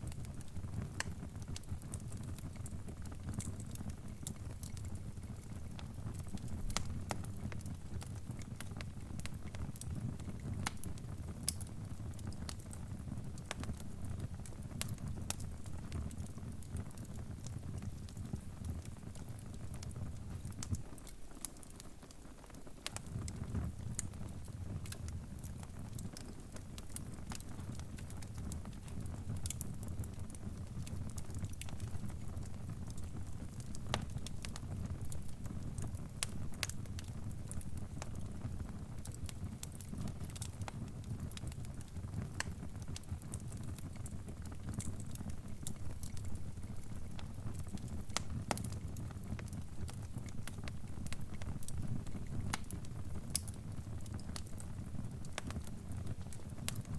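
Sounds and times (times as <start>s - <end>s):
fire crackling and popping: 0.0s - 56.9s
low rumble of burning logs: 0.0s - 56.9s.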